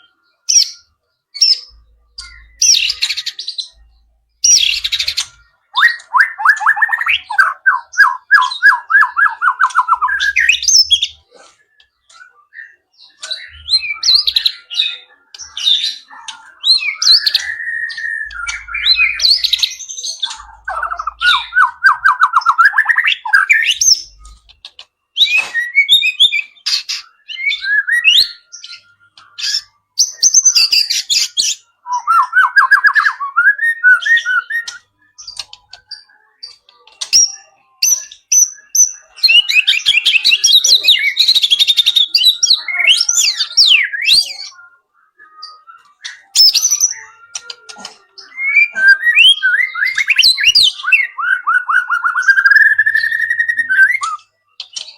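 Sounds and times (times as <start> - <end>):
songbird singing varied song: 0.0 - 54.9.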